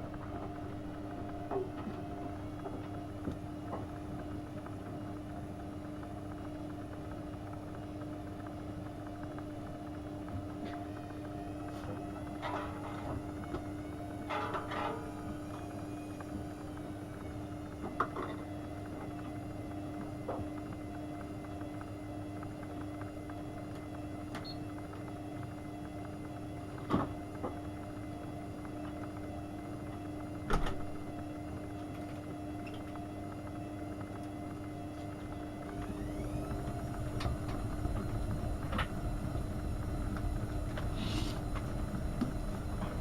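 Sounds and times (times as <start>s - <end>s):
drum motor whine: 0.0s - 43.0s
washing machine humming: 0.0s - 43.0s.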